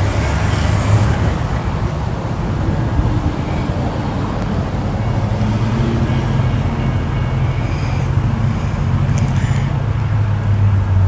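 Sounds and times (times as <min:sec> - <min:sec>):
road traffic noise: 0:00.0 - 0:11.0
train engine rumble: 0:00.0 - 0:11.0.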